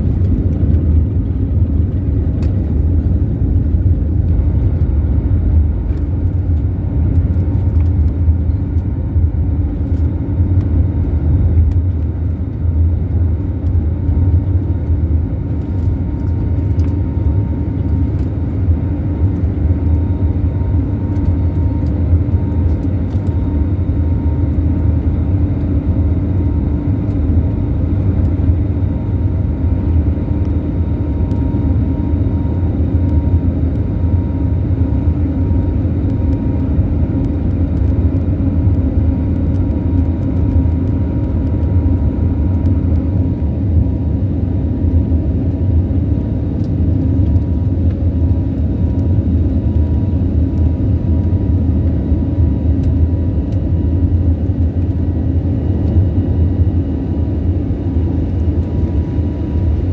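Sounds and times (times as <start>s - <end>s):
jet engine low rumble in cabin: 0.0s - 59.9s.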